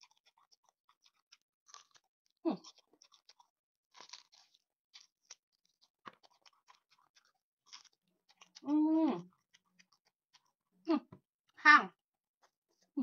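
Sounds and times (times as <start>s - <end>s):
chewing garlic crunches: 0.0s - 13.0s.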